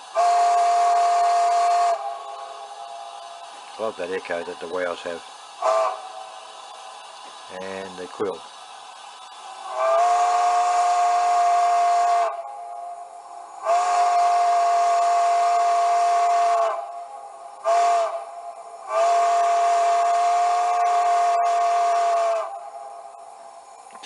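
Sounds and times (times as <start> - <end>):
steam locomotive whistle blasts: 0.0 - 3.6, 5.6 - 7.0, 9.5 - 23.8.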